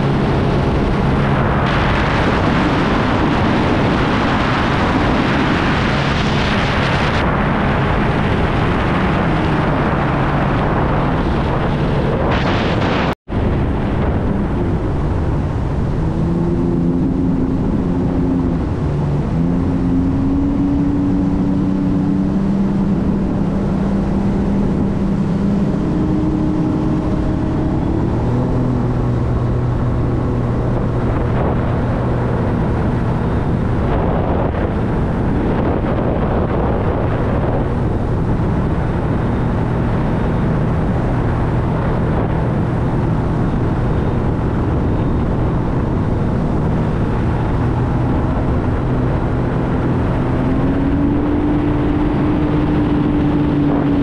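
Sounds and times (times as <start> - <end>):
water rushing: 0.0 - 54.0
watercraft engine droning: 0.0 - 54.0
wind: 0.0 - 54.0.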